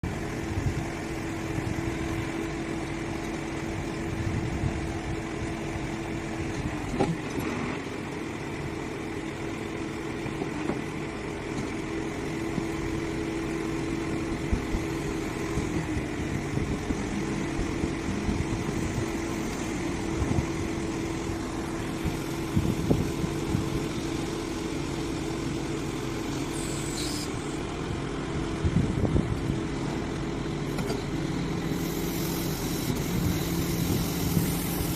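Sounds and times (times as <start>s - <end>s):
crane engine humming: 0.0s - 34.9s.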